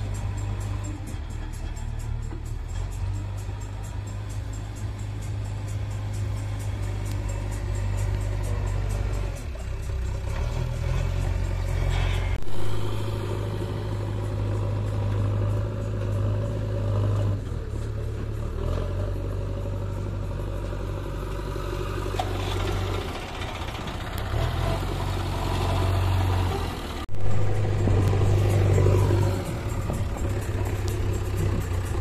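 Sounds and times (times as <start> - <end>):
diesel engines running: 0.0 - 32.0.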